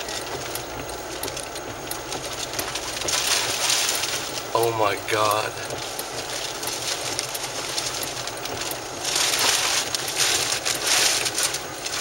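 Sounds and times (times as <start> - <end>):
wind and road noise in car: 0.0 - 12.0.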